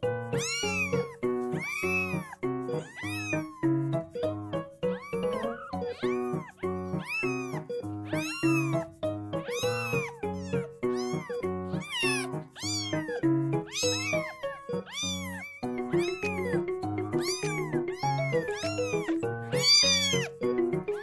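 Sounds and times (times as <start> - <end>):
kitten meowing: 0.3 - 21.0.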